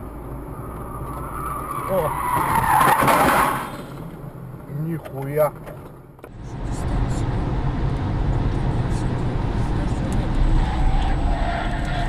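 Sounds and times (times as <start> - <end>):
car road noise from inside cabin: 0.0 - 12.0.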